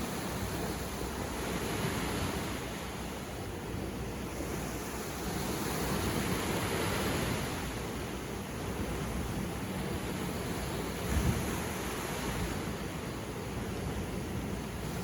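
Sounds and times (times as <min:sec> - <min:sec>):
sea waves breaking on beach: 0:00.0 - 0:15.0.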